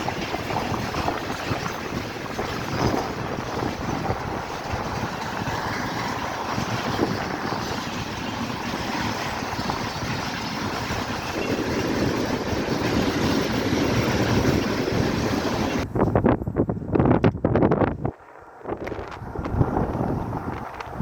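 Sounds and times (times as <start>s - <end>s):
passing train rumble: 0.0s - 16.9s, 18.4s - 21.0s
wind buffeting microphone: 0.0s - 21.0s.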